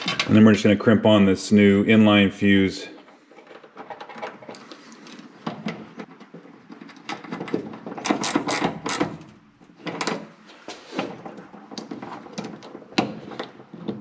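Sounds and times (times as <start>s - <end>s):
clicks and rattles of handling wiring: 0.0s - 0.5s, 2.9s - 14.0s.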